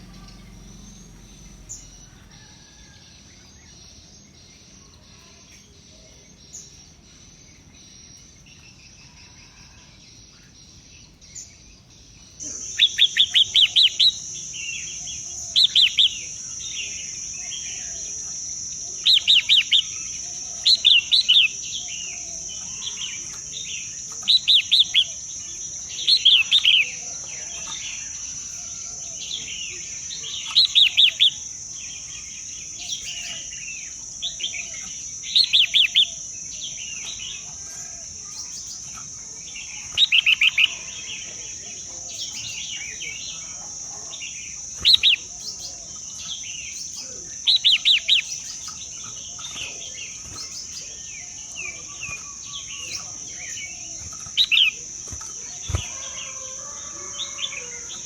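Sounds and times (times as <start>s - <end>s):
high-pitched insect drone: 0.0s - 11.0s, 12.4s - 58.0s
birds chirping: 0.0s - 58.0s.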